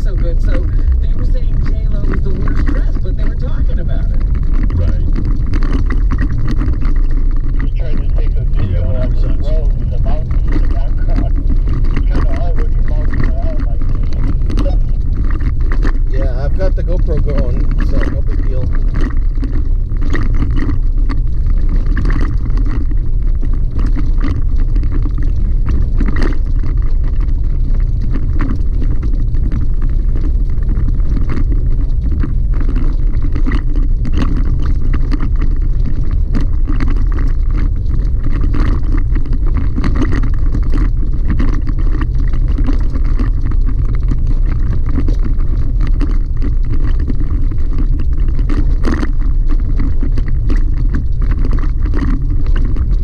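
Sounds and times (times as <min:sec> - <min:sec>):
small clicks and rattles: 0:00.0 - 0:53.0
tyre rumble on gravel road: 0:00.0 - 0:53.0.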